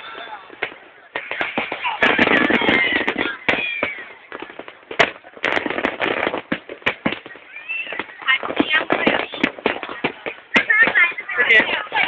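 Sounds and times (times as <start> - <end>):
crowd voices: 0.0 - 12.0
firework bang: 0.0 - 12.0
fireworks crackling: 0.0 - 12.0.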